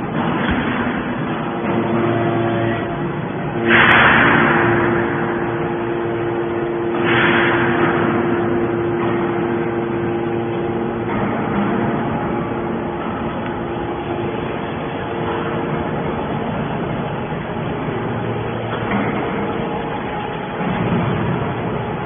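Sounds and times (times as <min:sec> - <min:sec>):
baler machine hum: 0:00.0 - 0:22.0
rushing crunching metal: 0:00.0 - 0:22.0.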